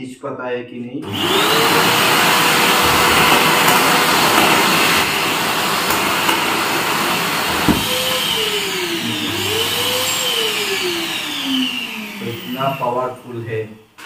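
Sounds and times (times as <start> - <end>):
vacuum cleaner running: 1.0 - 14.0.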